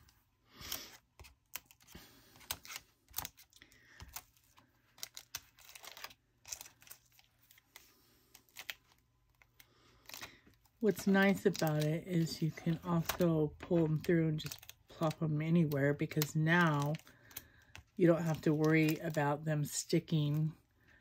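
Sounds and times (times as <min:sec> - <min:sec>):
soft paper rustling: 0:00.0 - 0:21.0.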